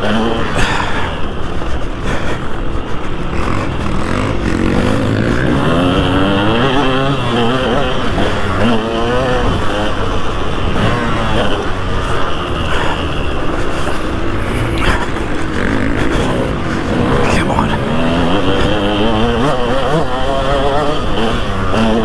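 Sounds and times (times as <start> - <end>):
motocross engine revving: 3.2 - 22.0.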